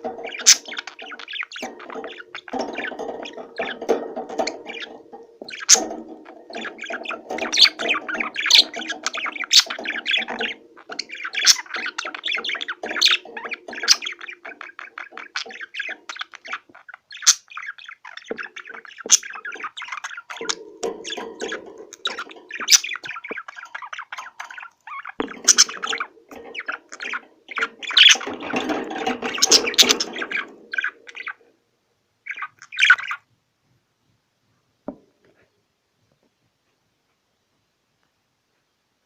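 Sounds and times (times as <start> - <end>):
flock of small birds chattering: 0.0 - 31.5, 32.2 - 33.2.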